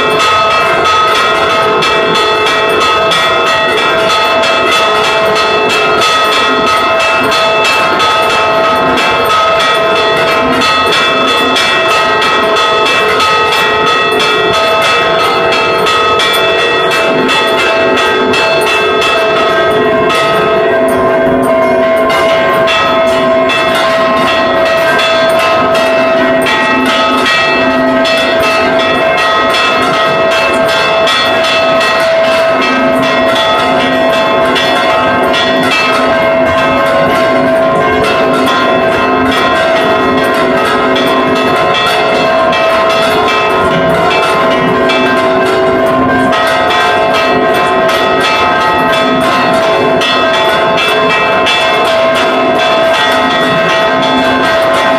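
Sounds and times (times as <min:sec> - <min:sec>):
church bells ringing rapidly: 0:00.0 - 0:54.9.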